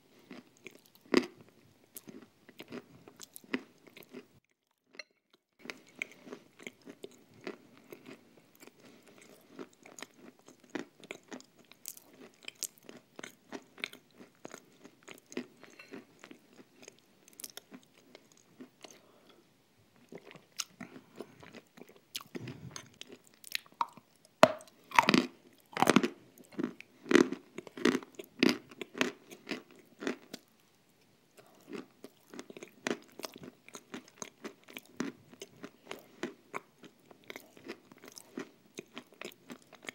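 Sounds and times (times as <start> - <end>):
crunching chews: 0.2 - 19.0, 20.1 - 30.6, 31.4 - 39.9.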